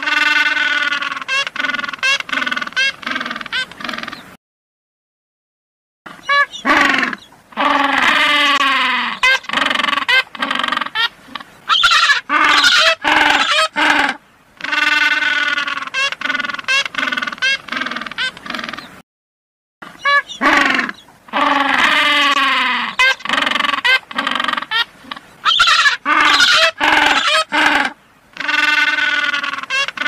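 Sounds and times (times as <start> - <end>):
penguins honking and braying: 0.0 - 4.2, 6.2 - 18.9, 20.0 - 30.0.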